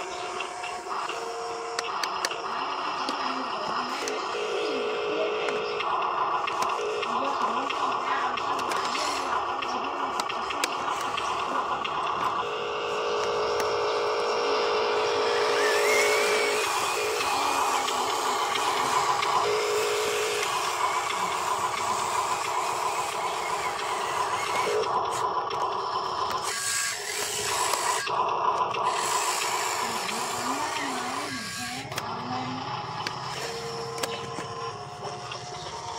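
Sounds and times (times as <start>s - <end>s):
toy electric motors whining: 0.0s - 35.9s.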